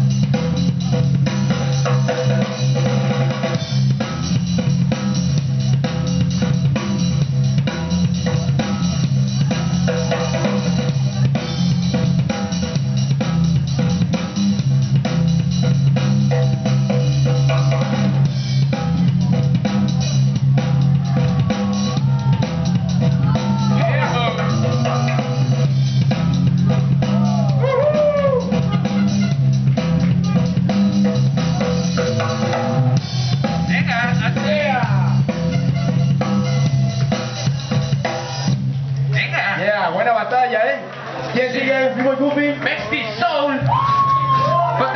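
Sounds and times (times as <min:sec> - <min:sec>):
drum-heavy dance music: 0:00.0 - 0:44.9.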